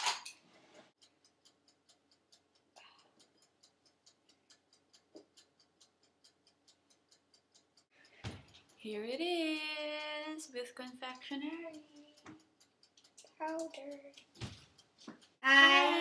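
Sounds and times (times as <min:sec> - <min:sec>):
fast faint ticking: 0:01.0 - 0:15.4.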